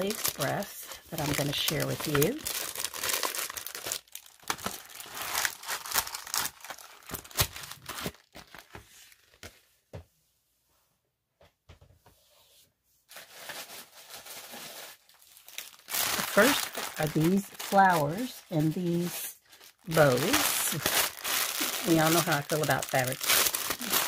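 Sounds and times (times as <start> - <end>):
packaging rustling and crinkling: 0.0 - 9.7, 13.1 - 24.0.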